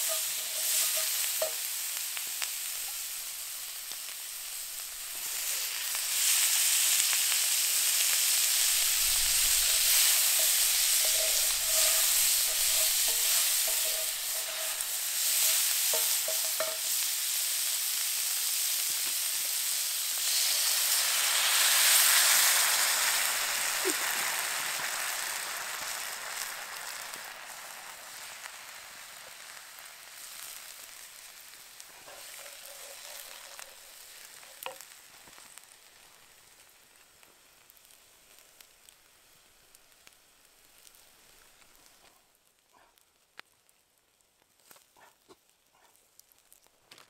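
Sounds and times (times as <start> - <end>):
food sizzling in pan: 0.0 - 43.0.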